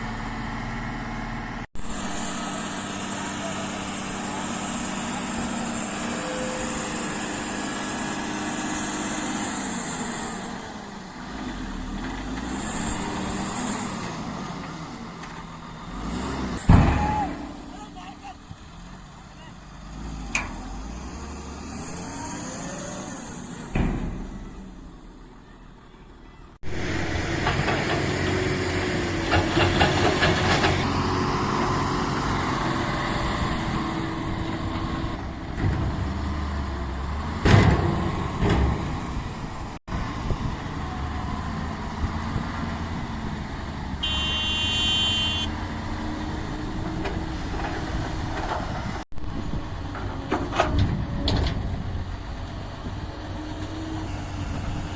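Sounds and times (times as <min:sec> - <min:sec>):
diesel machinery engine: 0:00.0 - 0:54.9.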